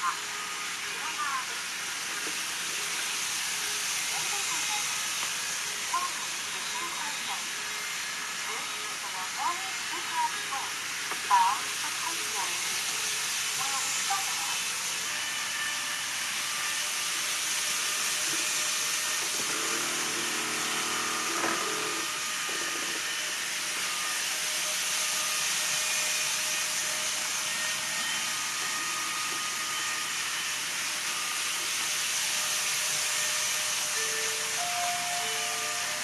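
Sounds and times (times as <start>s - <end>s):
train running hiss: 0.0s - 36.0s.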